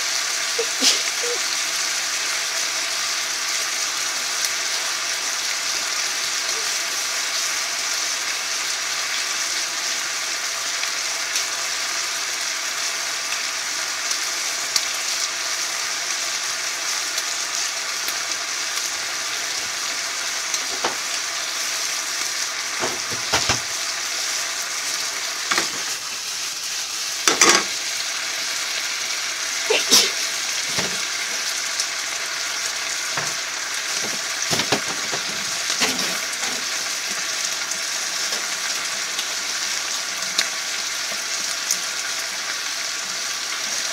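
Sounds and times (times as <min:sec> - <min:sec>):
meat sizzling in a wok: 0:00.0 - 0:43.9.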